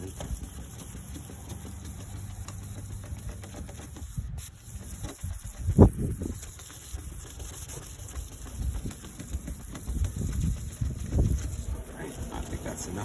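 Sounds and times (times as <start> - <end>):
polishing pad scrubbing plastic: 0.0 - 13.0.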